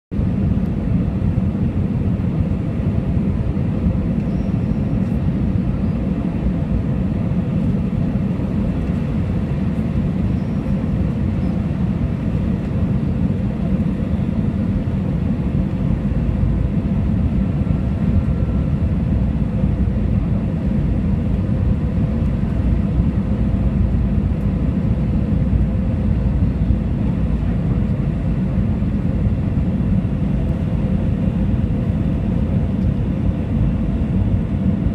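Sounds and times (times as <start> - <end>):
jet engine rumble: 0.1 - 34.9.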